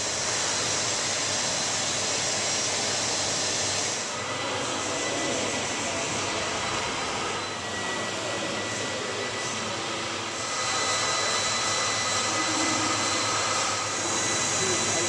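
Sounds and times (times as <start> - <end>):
vacuum pump whining: 0.0 - 15.0.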